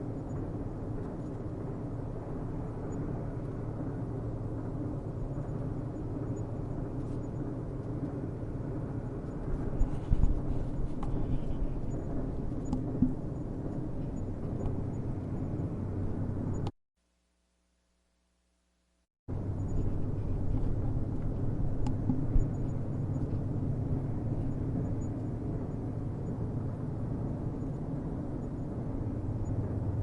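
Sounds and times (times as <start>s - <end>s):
distant train on rails: 0.0s - 16.7s, 19.3s - 30.0s.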